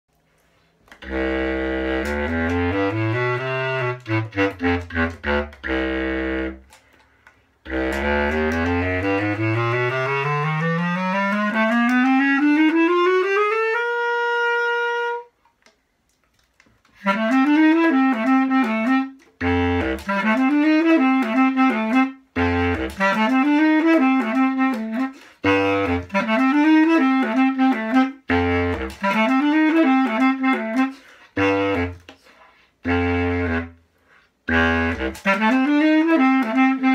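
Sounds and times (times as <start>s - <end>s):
bass clarinet playing: 0.9s - 15.4s, 16.8s - 36.9s.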